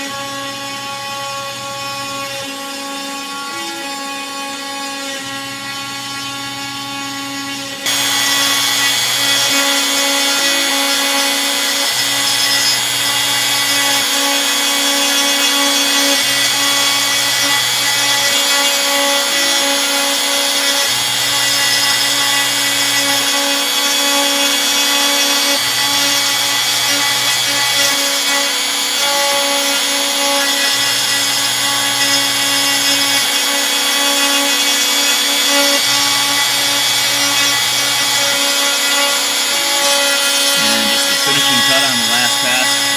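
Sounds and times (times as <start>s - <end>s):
router cutting wood: 0.0s - 42.9s.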